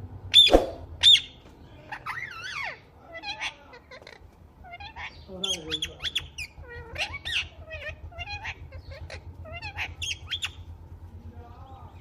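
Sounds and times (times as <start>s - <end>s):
parrot screeching and chirping: 0.3s - 10.7s.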